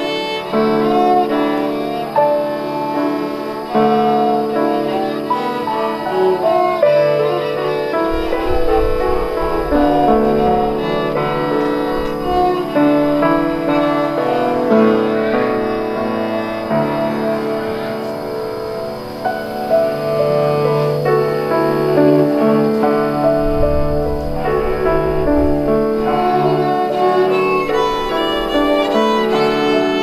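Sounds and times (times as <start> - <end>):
cello bowing: 0.0 - 30.0
grand piano: 0.0 - 30.0
violin bowing: 0.0 - 30.0.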